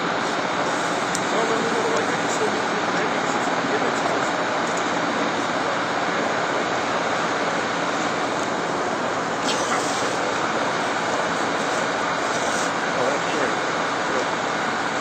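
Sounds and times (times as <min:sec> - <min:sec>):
gas torch roaring: 0:00.0 - 0:15.0.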